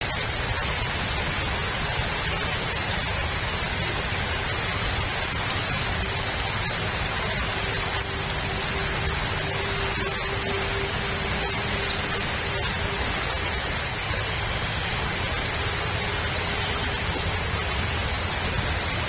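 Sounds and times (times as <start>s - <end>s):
rain hissing on microphone: 0.0s - 19.0s.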